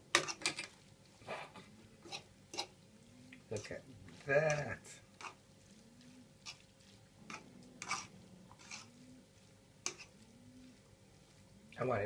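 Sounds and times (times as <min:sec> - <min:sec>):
fork scraping frying pan: 0:00.1 - 0:00.8, 0:01.4 - 0:02.8, 0:03.6 - 0:11.4.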